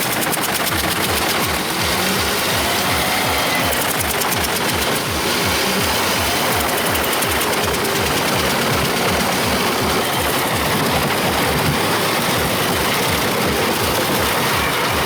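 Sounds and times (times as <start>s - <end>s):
heavy engine throbbing: 0.0s - 15.0s.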